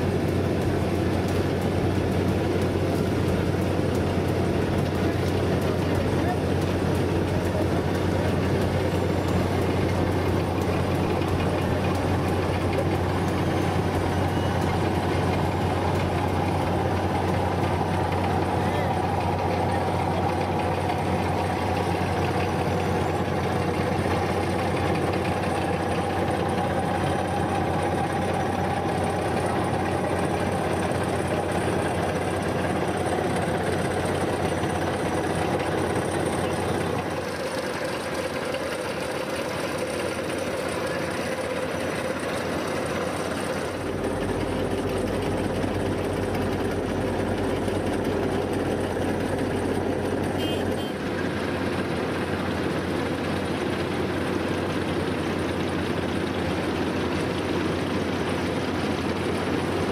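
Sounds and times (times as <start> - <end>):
asphalt paver engine hum: 0.0 - 59.9.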